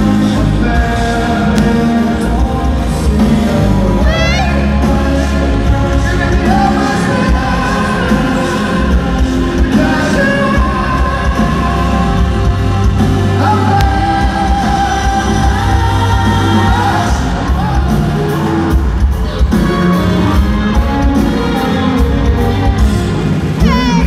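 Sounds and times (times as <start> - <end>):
man singing: 0.0 - 23.0, 23.6 - 24.0
live rock band playing: 0.0 - 24.0.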